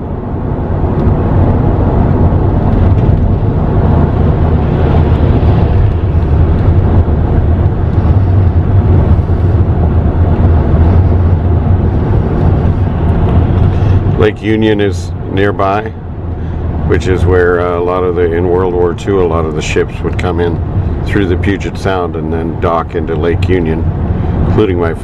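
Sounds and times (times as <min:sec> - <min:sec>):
car cabin engine and tyre rumble: 0:00.0 - 0:25.0.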